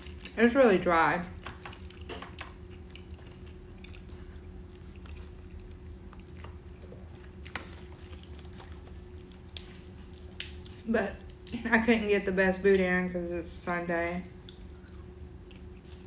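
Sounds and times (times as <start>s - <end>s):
chewing food: 0.0s - 11.7s, 14.2s - 16.0s
steady low hum: 0.0s - 16.0s.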